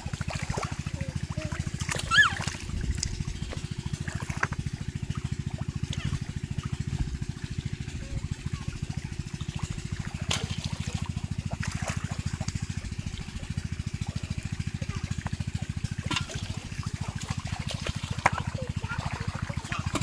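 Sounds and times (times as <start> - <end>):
small engine running: 0.0 - 20.0
water splashing: 0.0 - 20.0.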